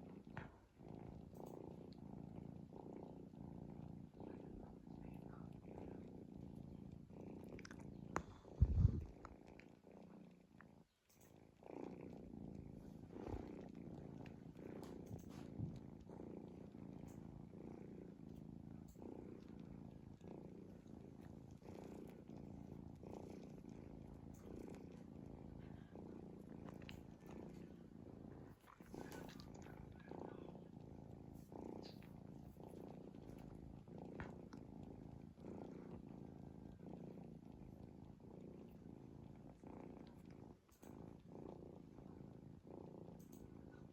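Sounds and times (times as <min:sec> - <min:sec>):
cat snoring: 0:00.0 - 0:43.9.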